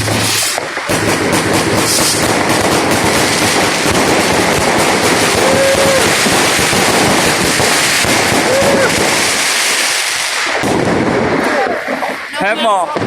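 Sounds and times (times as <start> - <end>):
firecrackers crackling and banging: 0.0 - 13.0.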